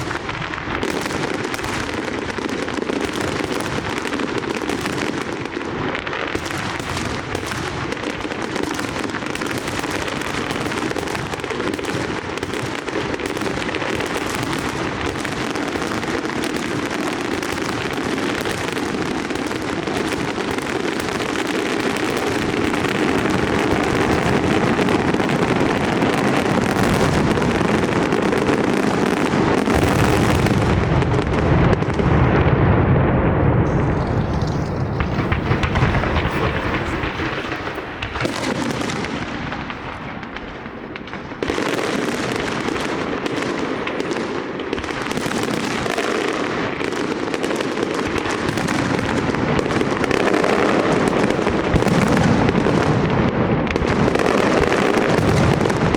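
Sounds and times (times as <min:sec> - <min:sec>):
fireworks bursts and crackling: 0:00.0 - 0:55.9.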